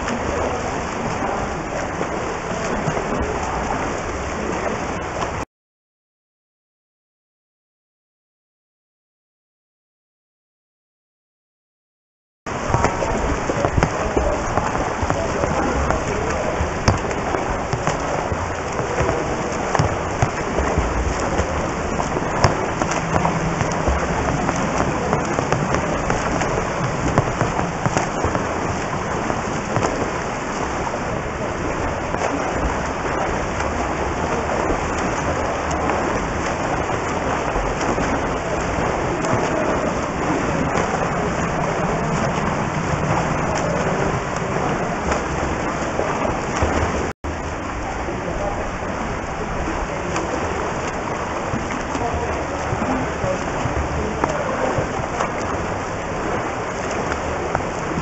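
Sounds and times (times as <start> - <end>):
water splashing from swimmers: 0.0 - 5.4, 12.5 - 58.0.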